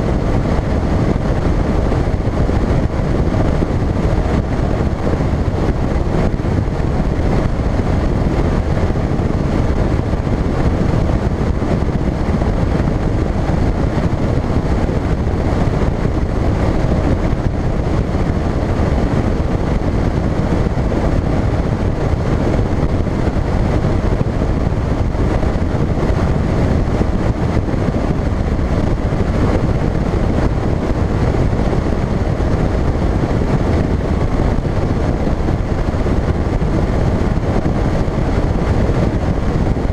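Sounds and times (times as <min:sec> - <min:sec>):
outboard motor running: 0:00.0 - 0:39.9
wind rushing on microphone: 0:00.0 - 0:39.9.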